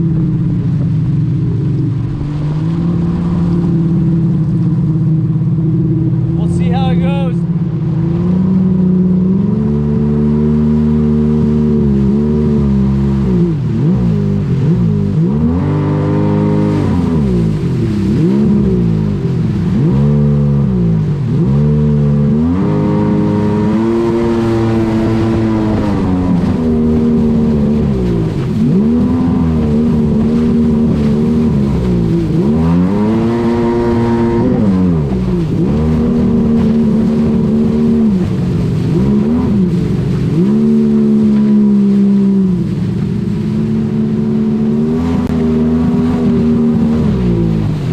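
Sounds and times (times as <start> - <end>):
jet ski engine revving: 0.0 - 47.9.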